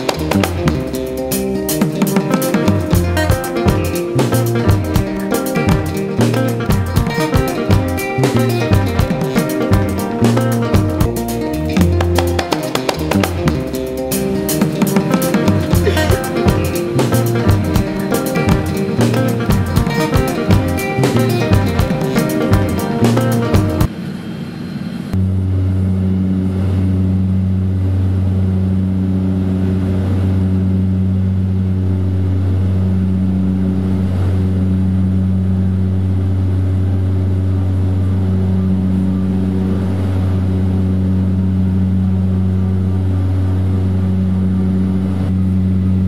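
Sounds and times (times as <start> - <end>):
propeller plane engine drone: 0.0 - 46.0.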